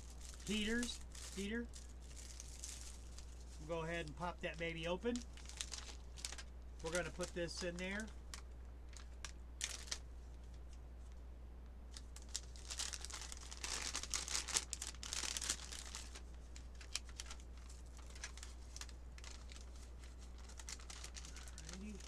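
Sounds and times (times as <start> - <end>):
plastic packaging crinkling: 0.0 - 10.7, 11.9 - 22.0.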